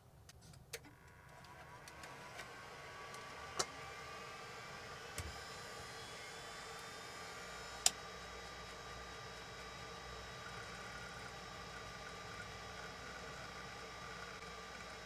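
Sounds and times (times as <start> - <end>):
computer hard drive whine: 0.9 - 15.0.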